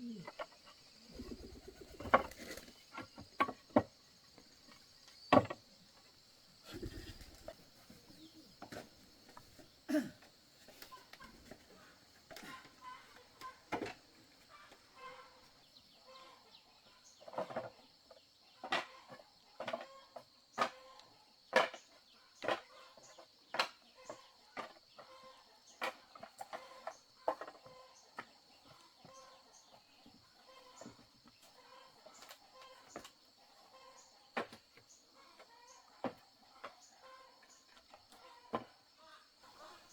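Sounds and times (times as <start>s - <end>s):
chickens clucking: 0.0s - 4.0s, 6.6s - 9.8s, 10.5s - 21.0s, 22.4s - 38.7s, 39.4s - 39.9s.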